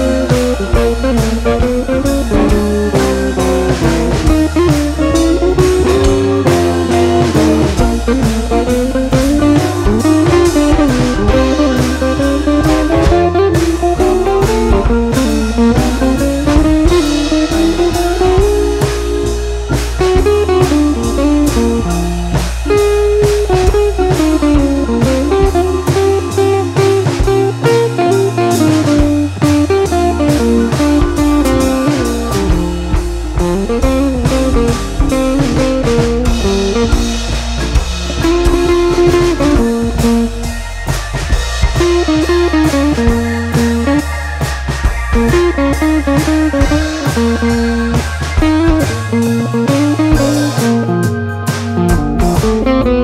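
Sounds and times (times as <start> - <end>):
blues guitar tune: 0.0 - 53.0.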